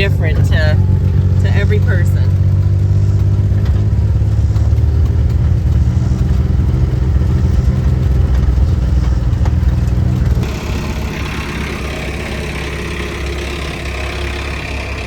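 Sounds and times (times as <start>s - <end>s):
tractor diesel engine drone: 0.0s - 15.0s.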